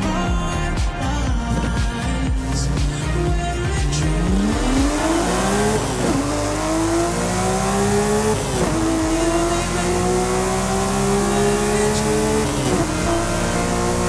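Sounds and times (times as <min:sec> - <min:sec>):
music with a steady beat: 0:00.0 - 0:14.0
car engine accelerating hard: 0:02.4 - 0:14.0.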